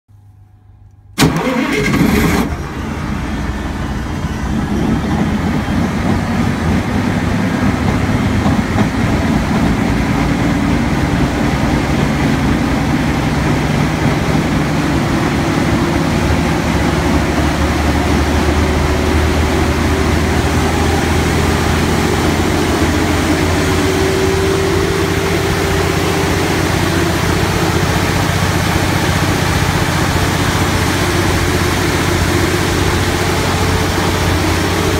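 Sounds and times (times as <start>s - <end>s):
diesel generator engine starting: 0.2s - 34.9s.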